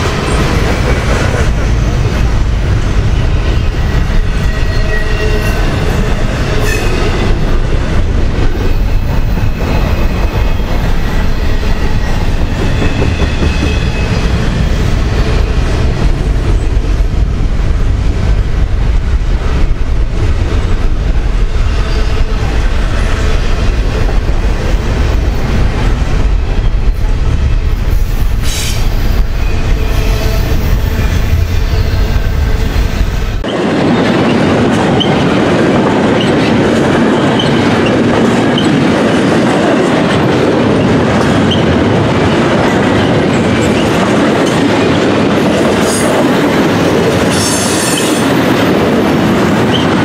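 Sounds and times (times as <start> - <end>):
freight train wheels rumbling: 0.0 - 50.0
train clattering: 0.0 - 50.0.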